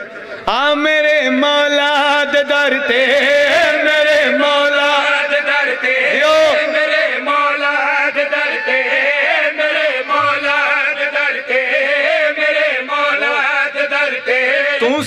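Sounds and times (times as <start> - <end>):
man singing devotional song: 0.2 - 15.0.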